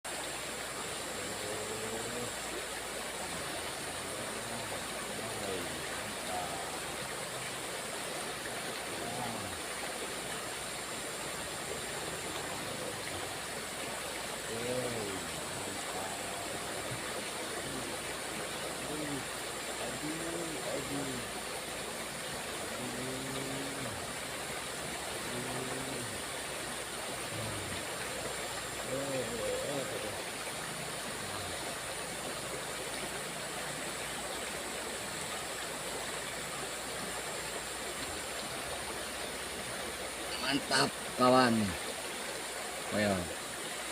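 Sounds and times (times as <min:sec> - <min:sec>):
small river flowing: 0:00.0 - 0:43.9.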